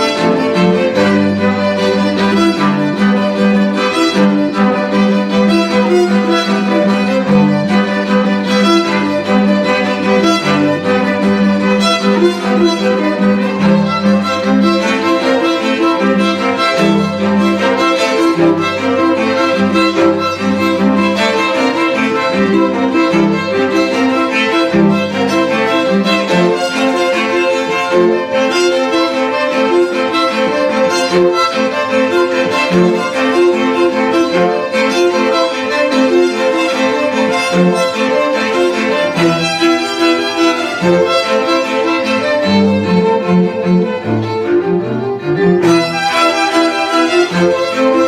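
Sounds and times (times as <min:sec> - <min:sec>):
string quartet playing: 0:00.0 - 0:48.0.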